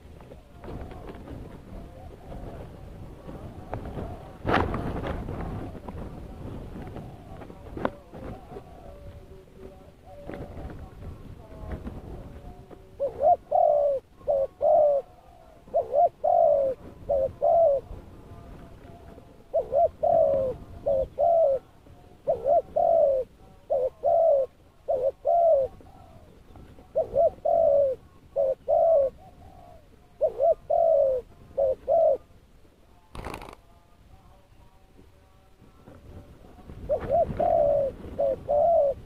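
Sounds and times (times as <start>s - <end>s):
dove cooing: 0.0s - 32.4s, 36.5s - 39.0s.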